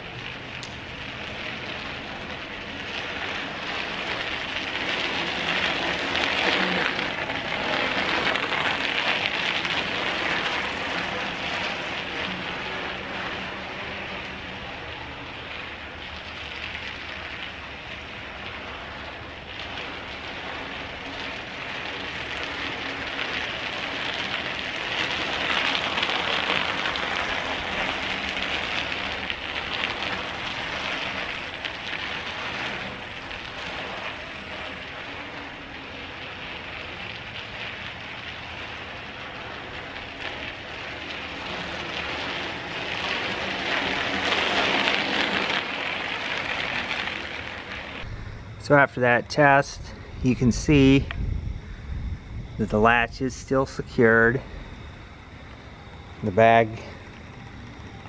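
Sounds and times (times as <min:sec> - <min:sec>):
bicycle tyres crunching on gravel: 0:00.0 - 0:58.0.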